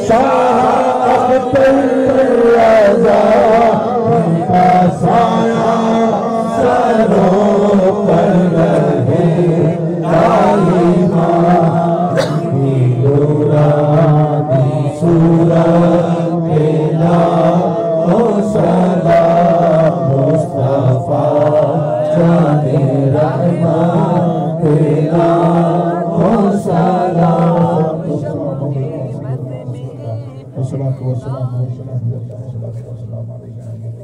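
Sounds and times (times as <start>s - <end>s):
men chanting devotional song: 0.0s - 34.0s.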